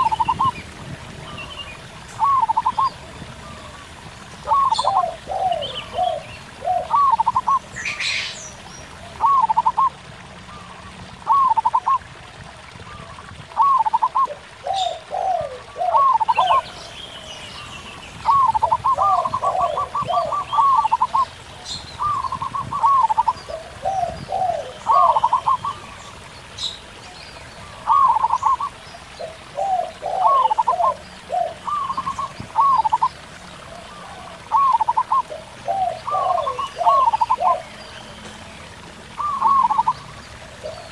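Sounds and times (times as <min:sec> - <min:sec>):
doves cooing: 0:00.0 - 0:08.3, 0:09.0 - 0:12.2, 0:12.8 - 0:16.8, 0:18.2 - 0:21.4, 0:22.0 - 0:26.0, 0:27.6 - 0:40.9
faint stream trickle: 0:00.0 - 0:40.9.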